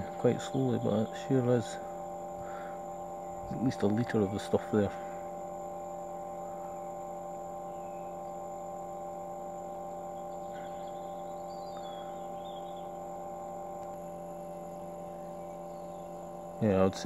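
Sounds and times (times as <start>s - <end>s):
chiller humming: 0.0s - 17.0s.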